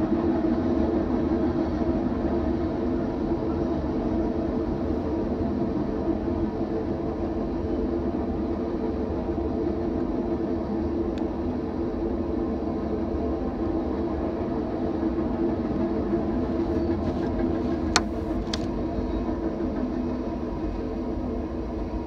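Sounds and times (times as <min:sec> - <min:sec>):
train running on tracks: 0:00.0 - 0:22.0.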